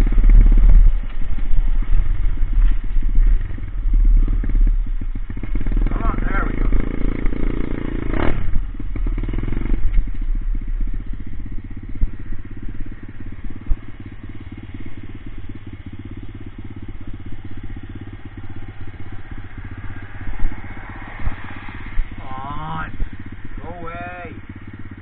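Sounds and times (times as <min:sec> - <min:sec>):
motorbike engine idling: 0:00.0 - 0:25.0.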